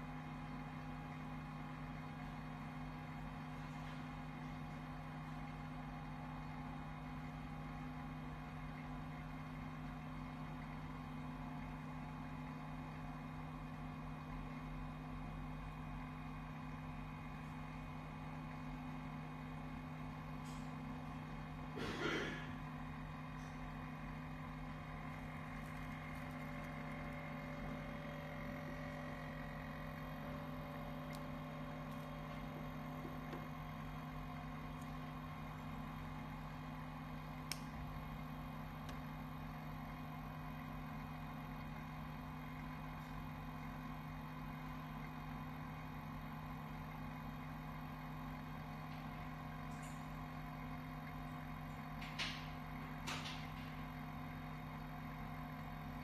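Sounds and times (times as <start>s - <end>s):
printer humming: 0.0s - 56.0s.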